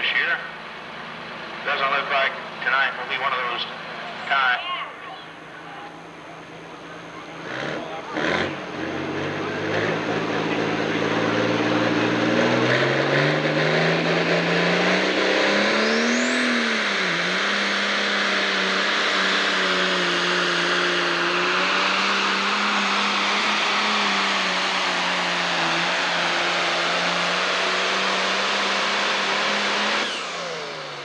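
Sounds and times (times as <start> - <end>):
diesel tractor engine under load: 0.0 - 31.0.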